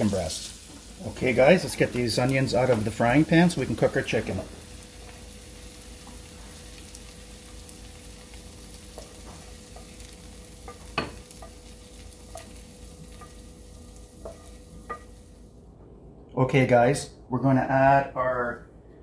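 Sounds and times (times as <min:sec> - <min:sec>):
onions sizzling in frying pan: 0:00.0 - 0:15.6.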